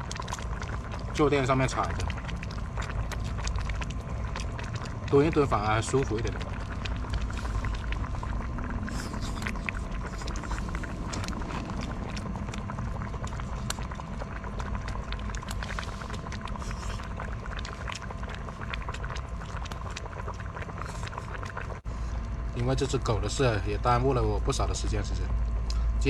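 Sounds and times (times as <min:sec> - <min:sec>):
wood fire crackling: 0:00.0 - 0:25.9
low wind rumble: 0:00.0 - 0:26.0.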